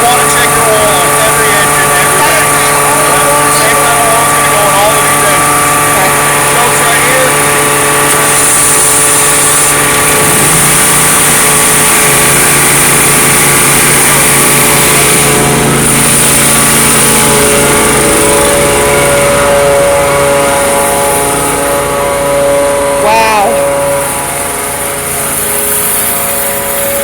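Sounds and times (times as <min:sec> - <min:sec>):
small gasoline engines running: 0:00.0 - 0:27.0.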